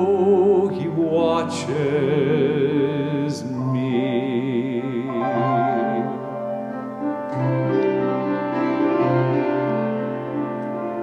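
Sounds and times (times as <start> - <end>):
piano playing sustained chords: 0.0 - 11.0.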